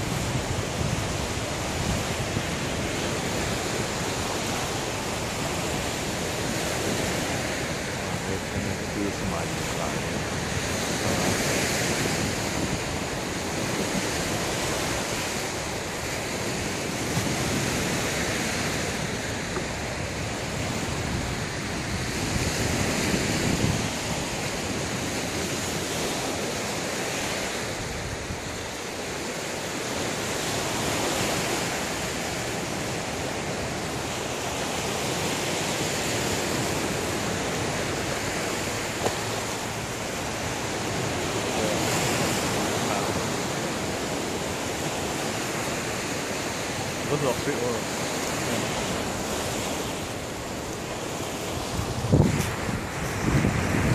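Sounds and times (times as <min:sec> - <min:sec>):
waves breaking on rocky shore: 0:00.0 - 0:53.9
wind on microphone: 0:00.0 - 0:53.9.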